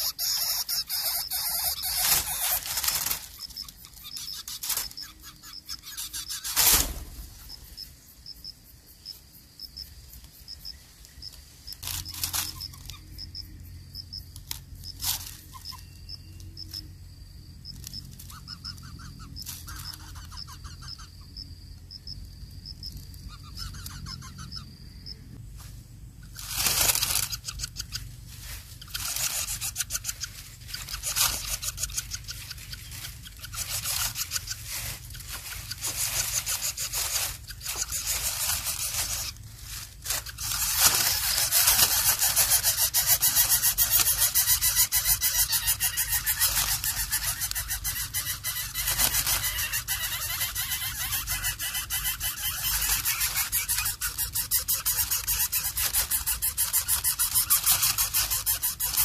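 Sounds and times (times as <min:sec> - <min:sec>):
nestlings rasping begging calls: 0:00.0 - 0:16.9, 0:17.6 - 0:25.4, 0:26.2 - 0:59.0.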